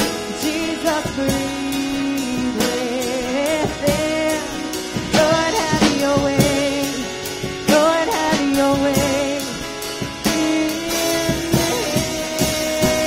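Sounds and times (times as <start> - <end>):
acoustic guitar: 0.0 - 13.0
drums: 0.0 - 13.0
person singing: 0.0 - 13.0.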